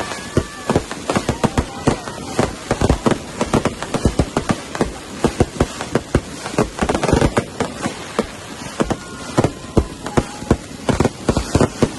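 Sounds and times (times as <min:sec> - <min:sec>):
fireworks bangs and cracks: 0:00.0 - 0:11.9.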